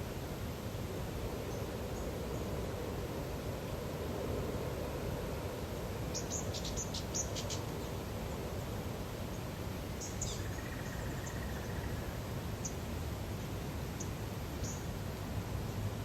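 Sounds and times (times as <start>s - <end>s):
low background rumble and hiss: 0.0s - 16.0s.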